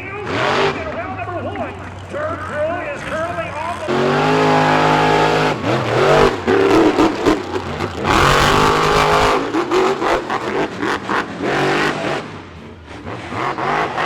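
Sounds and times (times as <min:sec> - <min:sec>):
monster truck engines revving: 0:00.0 - 0:14.0.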